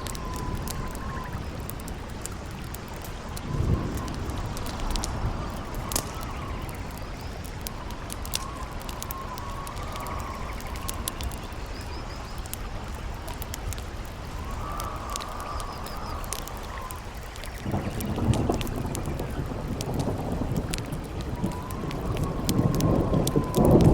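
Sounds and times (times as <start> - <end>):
campfire crackling and popping: 0.0 - 23.9
howling wind: 0.0 - 23.9.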